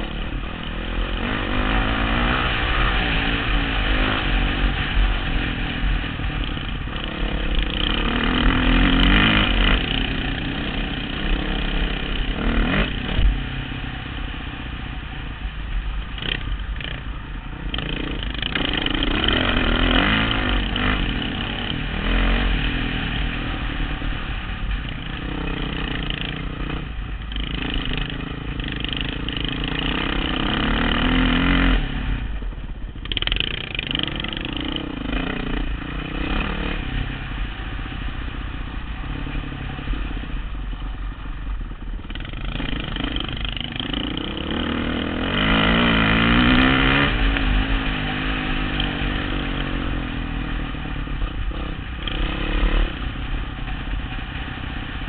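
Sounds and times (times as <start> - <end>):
dirt bike engine revving: 0.0 - 14.0, 17.6 - 32.2, 33.0 - 37.2, 42.0 - 55.0.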